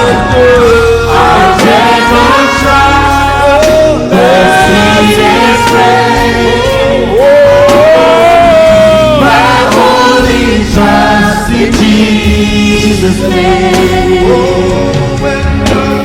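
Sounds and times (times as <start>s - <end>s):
band playing: 0.0s - 16.0s
voices singing worship song: 0.0s - 16.0s.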